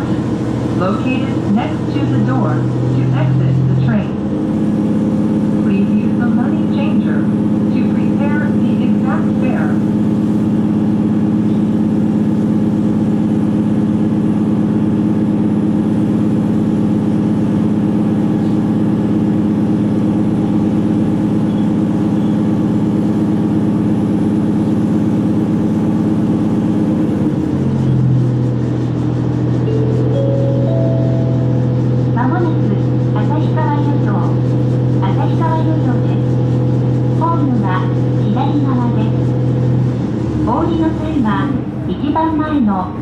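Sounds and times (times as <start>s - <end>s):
railcar drive drone: 0.0s - 43.0s.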